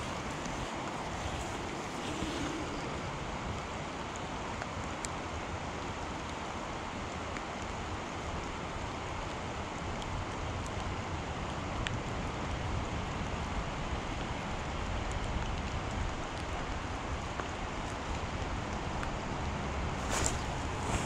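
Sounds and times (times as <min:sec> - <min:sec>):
creek water flowing: 0:00.0 - 0:21.0
wind rumbling on microphone: 0:00.0 - 0:21.0.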